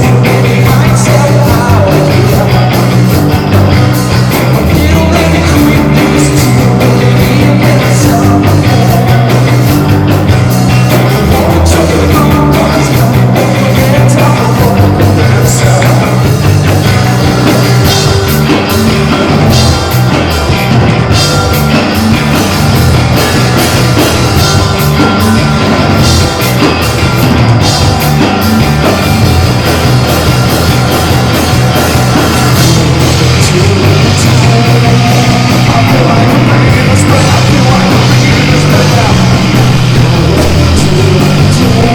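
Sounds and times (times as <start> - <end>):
drum and cymbal hits: 0.0 - 41.9
heavy bass line: 0.0 - 41.9
live rock band playing: 0.0 - 41.9.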